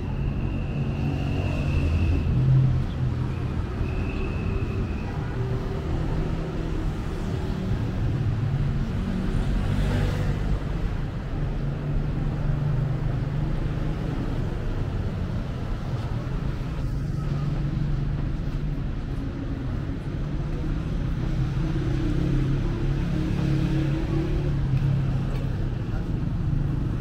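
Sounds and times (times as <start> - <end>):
traffic engine drone: 0.0 - 27.0.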